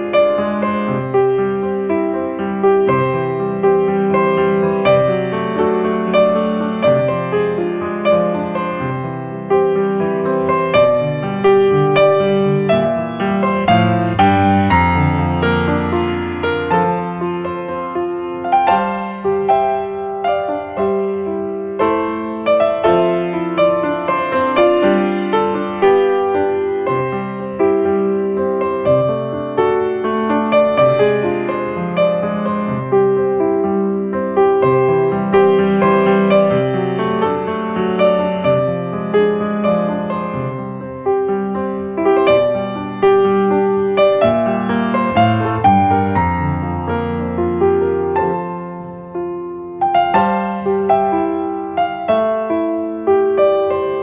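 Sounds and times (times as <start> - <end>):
slow piano music: 0.0 - 54.0.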